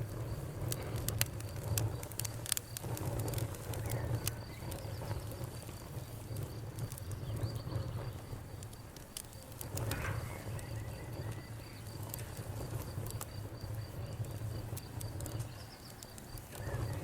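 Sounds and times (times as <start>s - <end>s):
crickets chirping: 0.0s - 17.0s
fire crackling: 0.0s - 17.0s.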